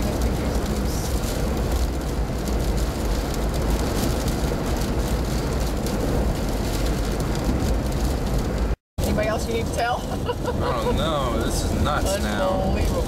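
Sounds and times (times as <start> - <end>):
hurricane wind buffeting: 0.0 - 13.0.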